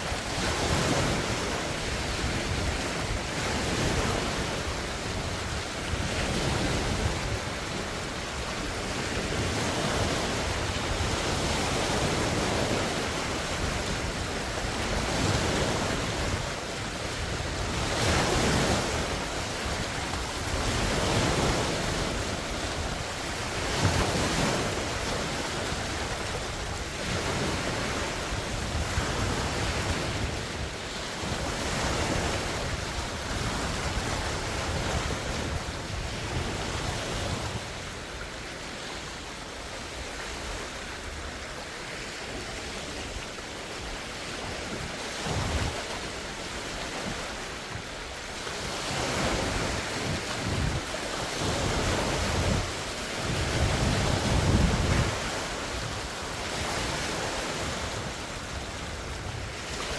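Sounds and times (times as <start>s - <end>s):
lake waves breaking on shore: 0.0s - 59.9s
wind rumbling on microphone: 0.0s - 59.9s.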